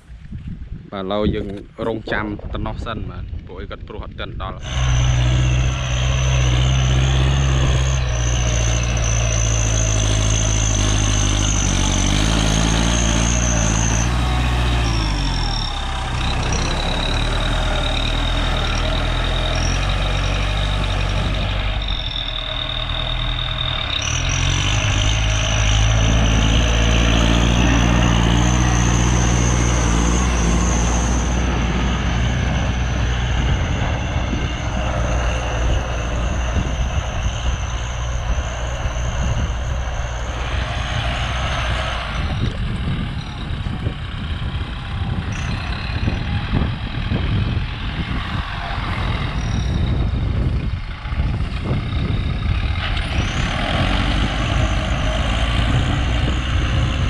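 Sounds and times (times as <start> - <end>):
tractor diesel engine working: 1.1 - 57.0
high mechanical whine: 1.5 - 57.0.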